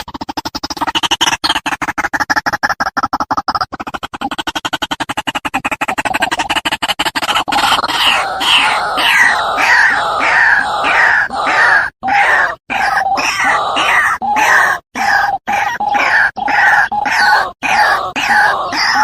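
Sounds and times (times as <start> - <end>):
bird repeated croaking notes: 0.0 - 19.0
bird stuttering rattle call: 0.0 - 19.0.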